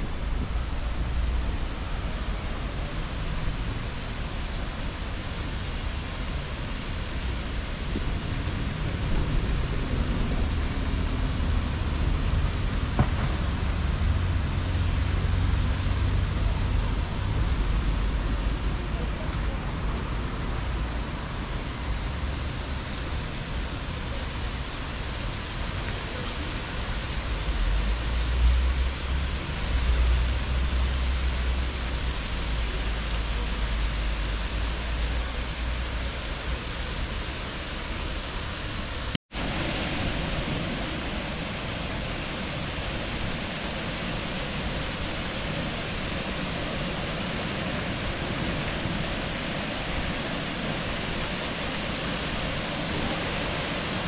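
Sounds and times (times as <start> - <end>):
city ambience: 0.0 - 54.0.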